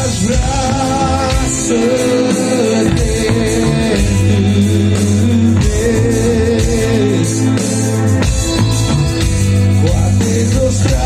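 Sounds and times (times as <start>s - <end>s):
bass guitar: 0.0s - 11.0s
drums: 0.0s - 11.0s
electric guitars: 0.0s - 11.0s.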